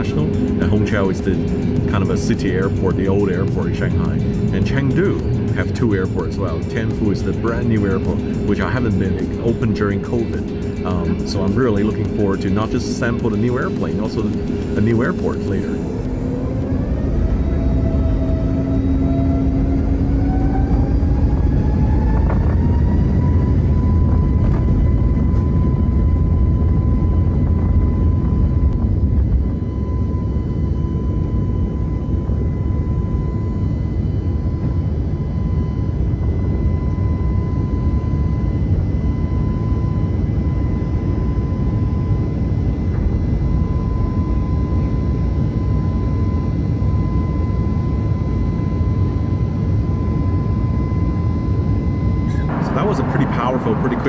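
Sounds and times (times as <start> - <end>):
high engine whine: 0.0 - 54.0
jet engines rumbling: 0.0 - 54.0.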